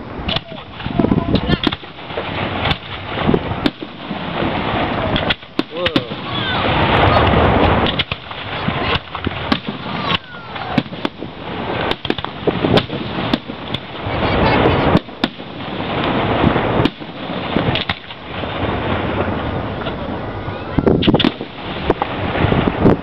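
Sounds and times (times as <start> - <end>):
firework shells bursting: 0.2 - 20.1, 20.8 - 23.0.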